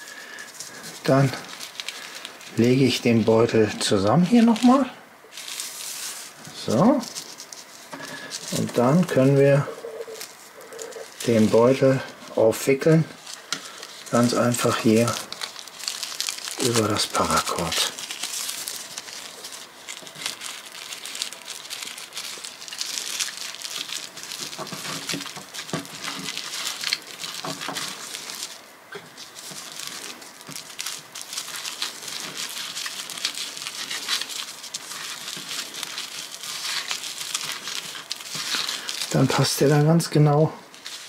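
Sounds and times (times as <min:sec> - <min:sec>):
plastic bag crinkling: 0:00.0 - 0:41.0.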